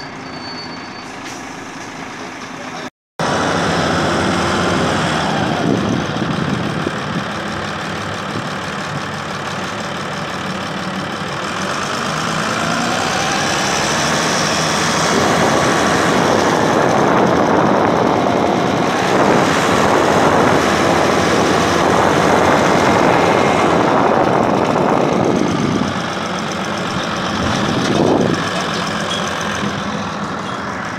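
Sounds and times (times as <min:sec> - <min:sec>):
bus diesel engine: 0:00.0 - 0:30.9.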